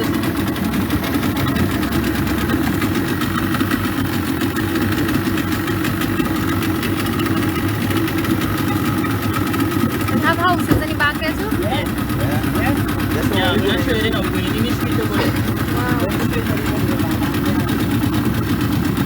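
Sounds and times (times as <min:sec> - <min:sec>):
boat motor droning: 0:00.0 - 0:19.0.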